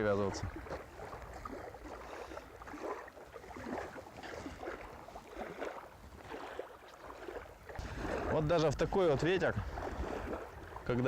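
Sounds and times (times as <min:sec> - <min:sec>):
small waves lapping: 0:00.0 - 0:11.0
wind rumbling on microphone: 0:00.0 - 0:11.0.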